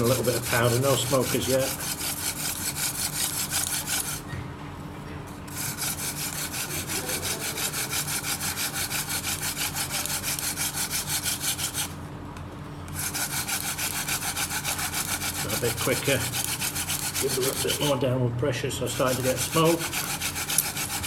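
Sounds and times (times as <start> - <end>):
wooden spindle scraping hearth board: 0.0 - 4.3, 5.5 - 12.0, 12.9 - 18.0, 18.9 - 21.0.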